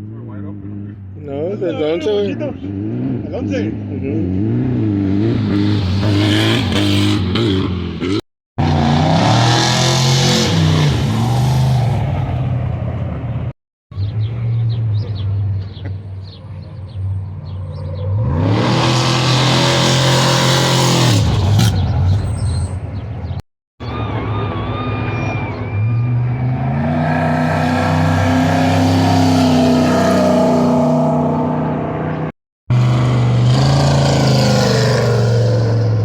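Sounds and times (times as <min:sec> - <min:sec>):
race vehicle engines at full throttle: 0:00.0 - 0:36.0.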